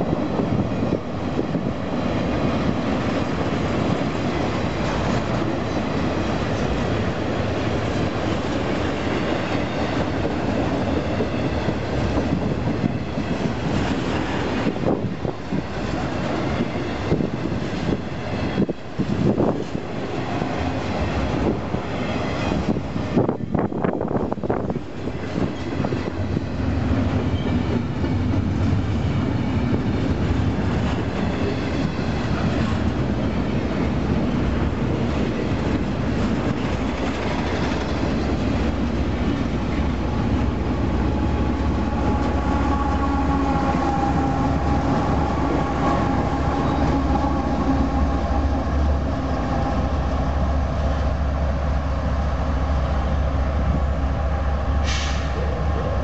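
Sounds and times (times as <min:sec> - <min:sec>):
train wheels clickety-clack on rail: 0:00.0 - 0:56.0.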